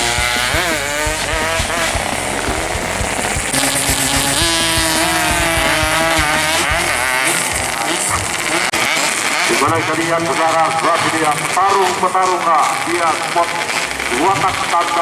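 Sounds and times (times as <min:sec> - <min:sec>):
motorcycles revving and shifting: 0:00.0 - 0:12.5.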